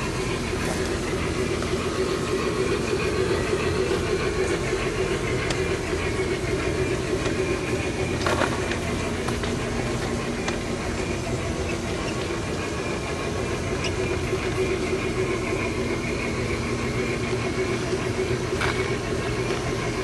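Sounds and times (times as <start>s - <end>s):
model train motor hum: 0.0s - 20.0s
wheels rolling on rails: 0.0s - 20.0s.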